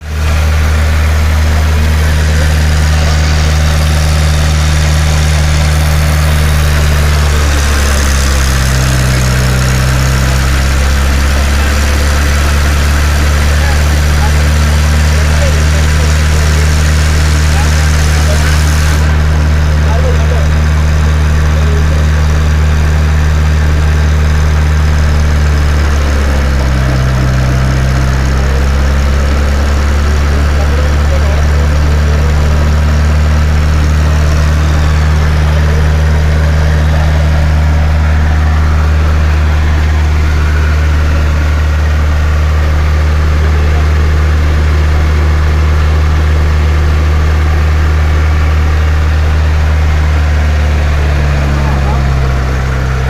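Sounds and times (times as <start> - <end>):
drill rig engine droning: 0.0 - 53.0.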